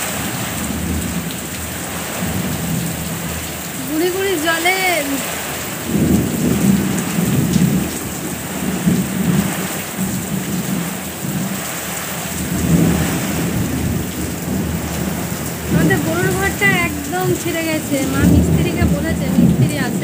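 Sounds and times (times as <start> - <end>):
heavy rain on roofs: 0.0 - 20.0
thunder rumbling: 0.0 - 20.0.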